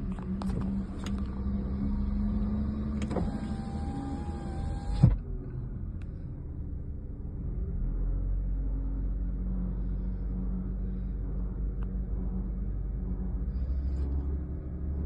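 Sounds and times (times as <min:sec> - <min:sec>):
whirring whine: 0:00.0 - 0:15.0.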